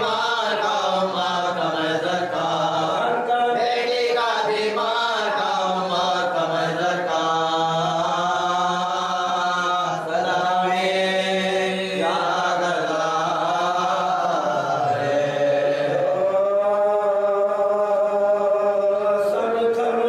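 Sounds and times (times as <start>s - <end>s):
man chanting unaccompanied: 0.0s - 20.0s.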